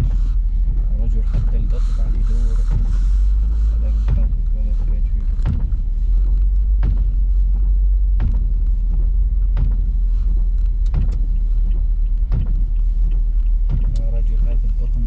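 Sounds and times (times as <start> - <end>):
car rumble from cabin: 0.0 - 15.0.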